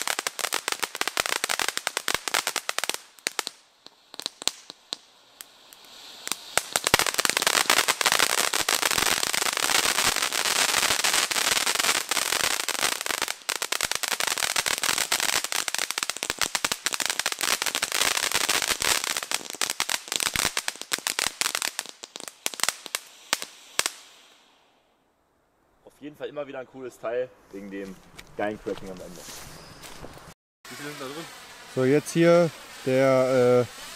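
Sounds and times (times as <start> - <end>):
firework fountain crackling: 0.0 - 24.7, 30.7 - 33.9
firework fountain hiss: 0.0 - 24.9, 30.7 - 33.9.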